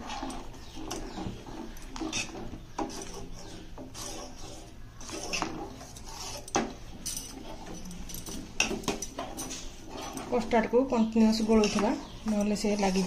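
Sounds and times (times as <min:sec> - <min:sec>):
metal spoon scraping saucepan: 0:00.0 - 0:13.0.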